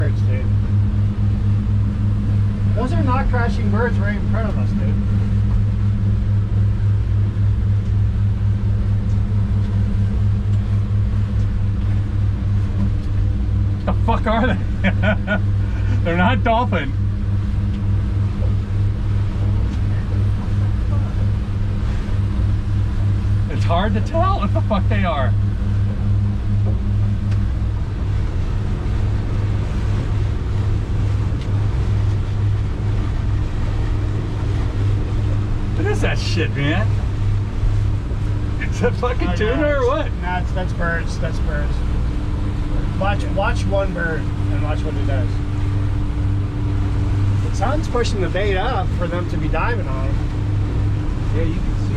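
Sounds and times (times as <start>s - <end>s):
boat engine running: 0.0s - 51.9s.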